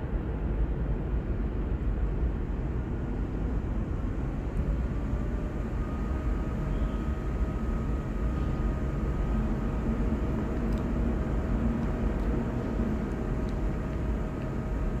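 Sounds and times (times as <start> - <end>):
subway station rumble and hum: 0.0 - 15.0.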